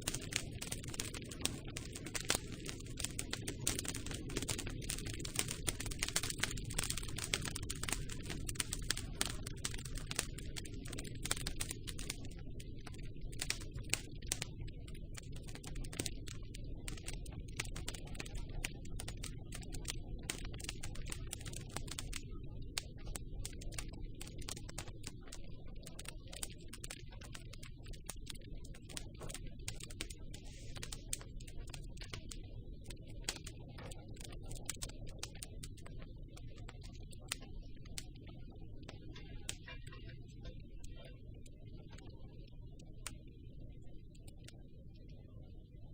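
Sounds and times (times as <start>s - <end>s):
wood crackling and popping: 0.0s - 43.3s
low rumble of flames: 0.0s - 45.9s.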